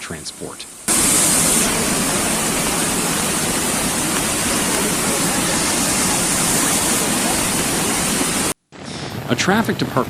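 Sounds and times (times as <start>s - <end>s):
floodwater rushing: 0.0s - 8.6s.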